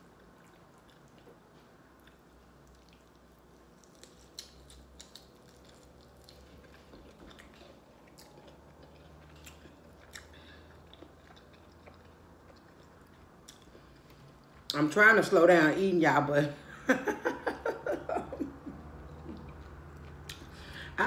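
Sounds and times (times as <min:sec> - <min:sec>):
person chewing: 0:00.0 - 0:14.8, 0:18.7 - 0:21.0
low steady hum: 0:00.0 - 0:21.0.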